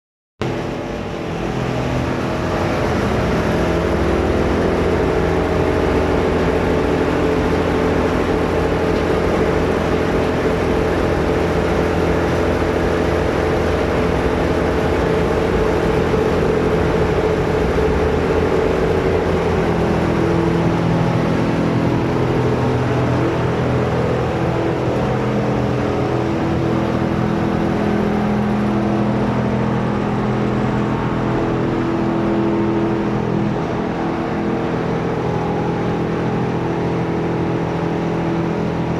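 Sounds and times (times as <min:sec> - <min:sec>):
shredding machine droning: 0:00.4 - 0:38.9.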